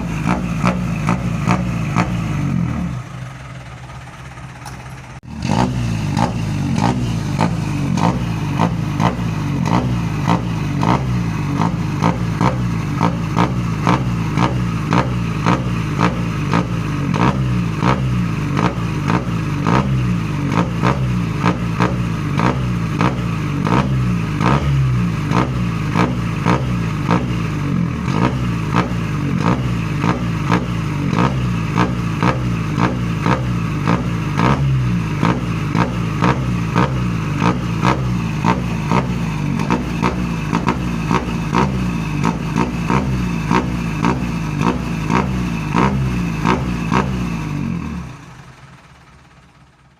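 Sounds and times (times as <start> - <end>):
vehicle engine with loud exhaust: 0.0 - 49.9.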